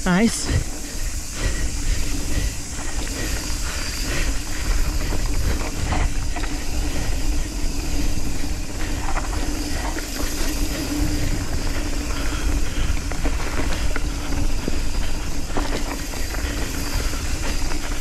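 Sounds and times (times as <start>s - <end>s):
wind rushing over microphone: 0.0s - 18.0s
bike tyre noise: 0.1s - 18.0s
bike knocking and rattling: 0.7s - 18.0s.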